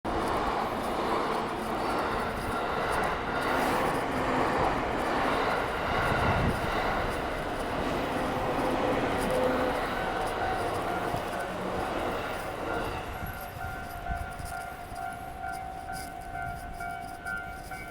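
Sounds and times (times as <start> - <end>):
trains rumbling past: 0.1 - 17.9.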